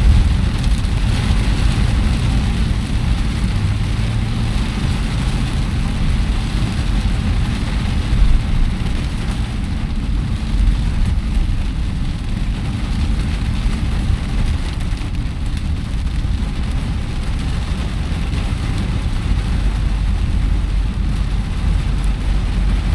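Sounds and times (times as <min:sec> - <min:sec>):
low rumble: 0:00.0 - 0:22.9
rain on a car roof: 0:00.0 - 0:22.9.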